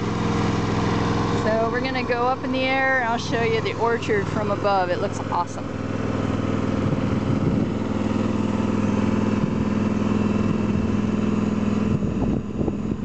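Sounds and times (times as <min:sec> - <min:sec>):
ladder engine running: 0:00.0 - 0:13.0.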